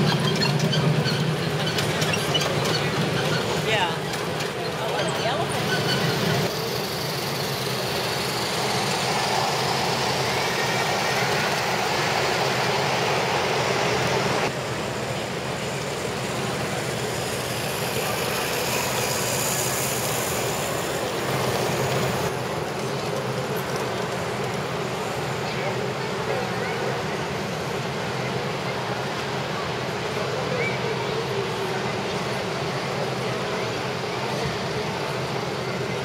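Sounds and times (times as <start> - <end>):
hall background noise: 0.0 - 36.0
model trains rolling on track: 0.0 - 36.0.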